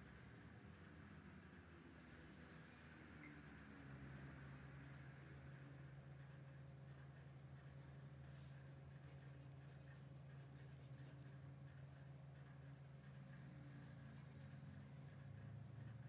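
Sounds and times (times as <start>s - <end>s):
low steady hum: 0.0s - 16.0s
pencil shading on paper: 1.9s - 16.0s.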